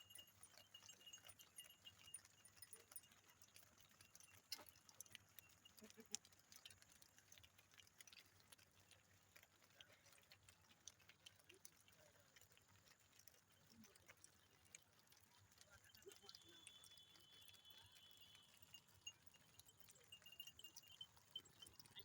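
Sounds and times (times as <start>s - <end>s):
faint clicks and ticks: 0.0s - 22.0s.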